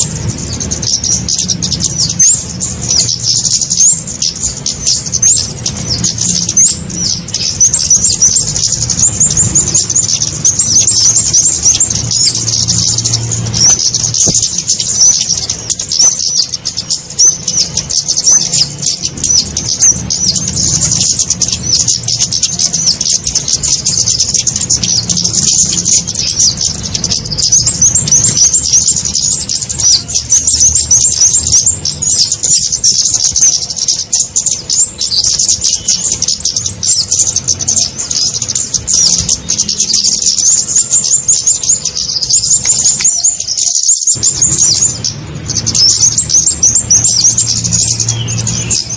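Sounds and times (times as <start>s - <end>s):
bird chirping and twittering: 0.0s - 48.9s.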